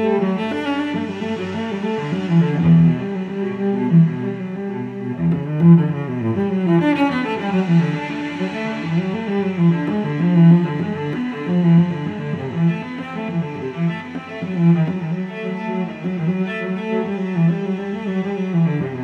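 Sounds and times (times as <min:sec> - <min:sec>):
bowed string background music: 0:00.0 - 0:19.0.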